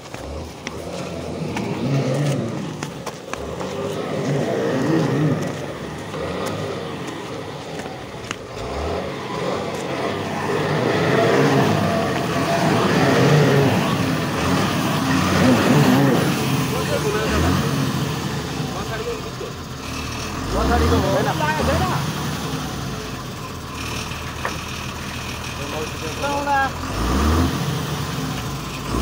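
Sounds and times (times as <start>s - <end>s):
truck diesel engine labouring: 0.0s - 29.0s.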